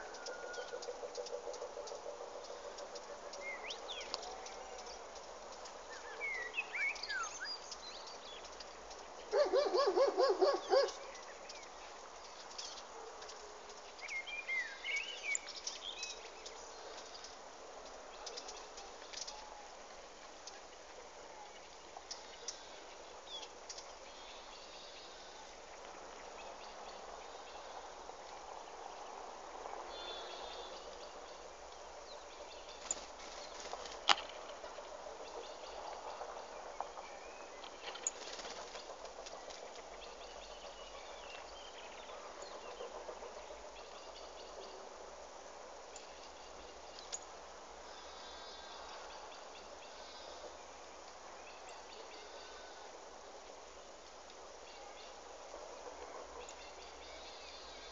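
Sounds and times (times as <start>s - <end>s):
faint outdoor hiss: 0.0s - 57.9s
small birds chirping: 0.0s - 57.9s.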